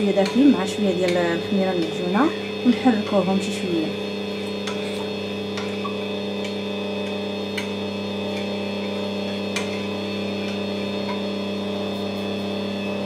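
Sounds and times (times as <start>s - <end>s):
stand mixer motor hum: 0.0s - 13.0s.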